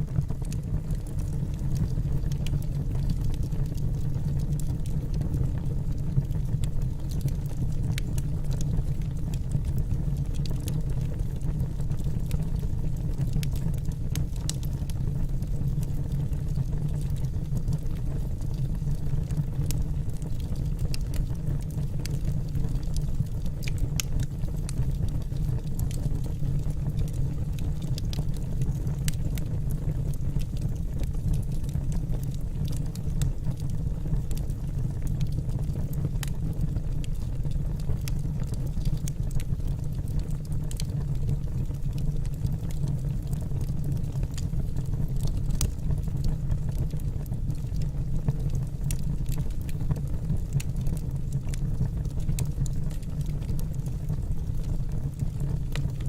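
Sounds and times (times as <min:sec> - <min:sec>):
fire flames burning: 0:00.0 - 0:56.0
firewood crackling and popping: 0:00.0 - 0:56.0.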